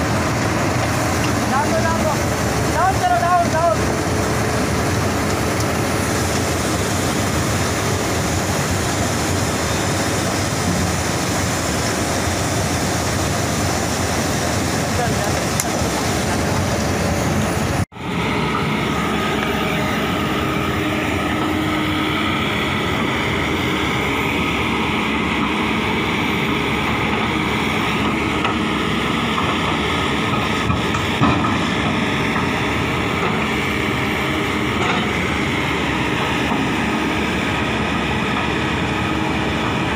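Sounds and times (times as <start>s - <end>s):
excavator diesel engine under load: 0.0s - 39.9s
excavator engine humming tones: 0.0s - 39.9s.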